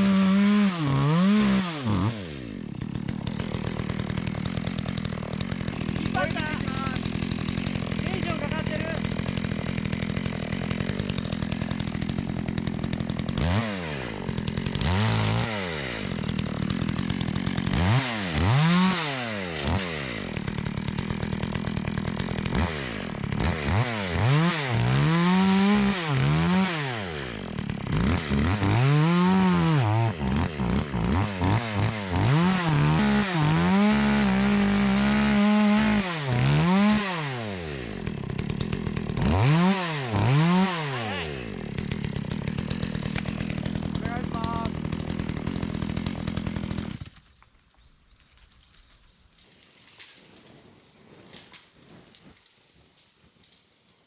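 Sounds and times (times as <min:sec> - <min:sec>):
chainsaw engine revving: 0:00.0 - 0:47.2.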